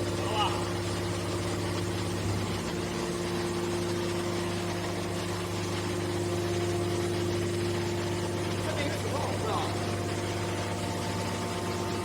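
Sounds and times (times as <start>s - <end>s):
hydraulic motor and pump humming: 0.0s - 12.0s.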